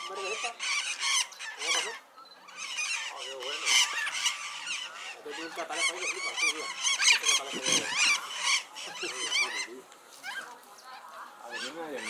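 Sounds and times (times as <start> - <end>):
parakeets chattering and chirping: 0.0 - 12.0.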